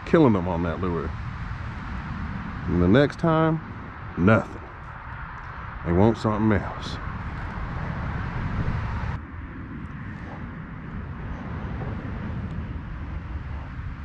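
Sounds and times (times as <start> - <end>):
highway traffic rumble and hiss: 0.0 - 14.0.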